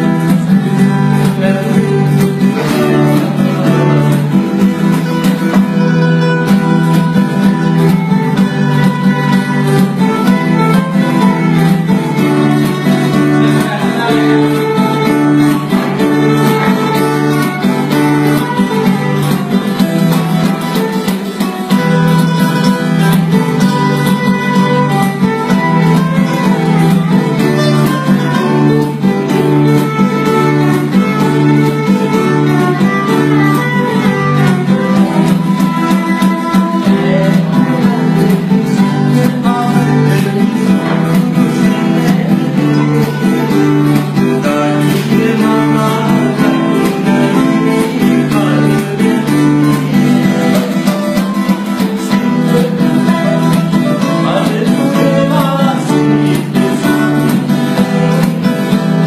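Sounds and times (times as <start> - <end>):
two acoustic guitars playing: 0.0 - 59.0.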